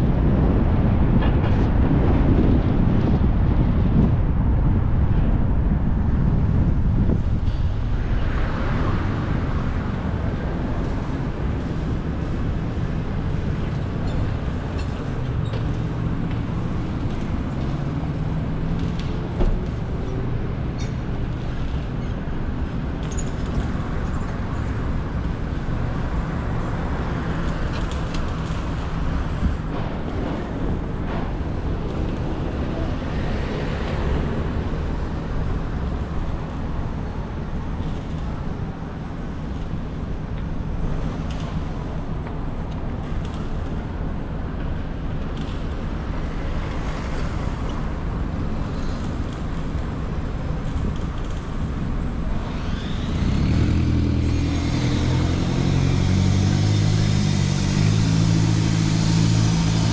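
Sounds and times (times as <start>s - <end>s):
nearby vehicle engines humming: 6.6s - 59.9s.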